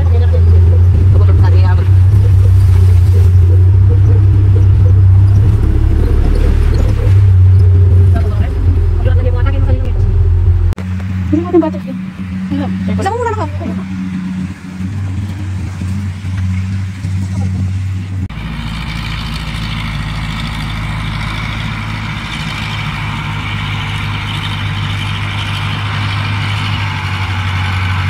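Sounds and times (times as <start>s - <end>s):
harvester and tractor engines droning: 0.0s - 28.0s.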